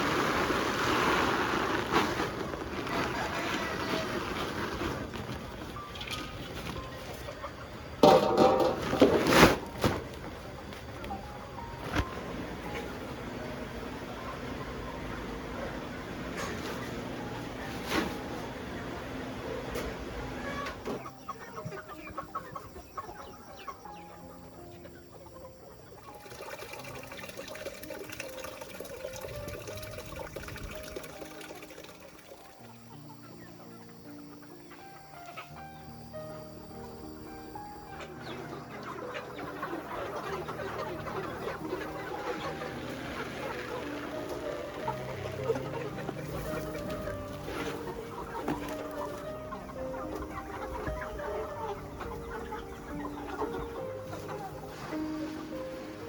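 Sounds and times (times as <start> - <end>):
chickens clucking: 0.0 - 56.0
soft background music: 0.1 - 56.0.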